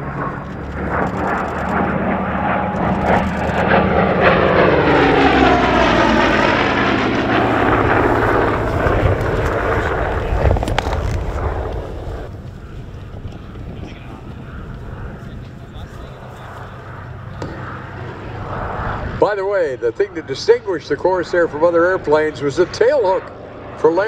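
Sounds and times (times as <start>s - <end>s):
propeller plane flying past: 0.0s - 24.0s.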